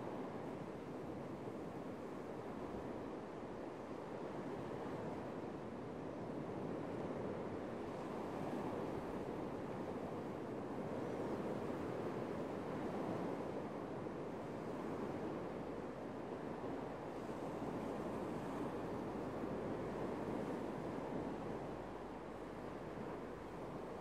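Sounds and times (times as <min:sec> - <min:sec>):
waves washing up a sandy beach: 0:00.0 - 0:24.0.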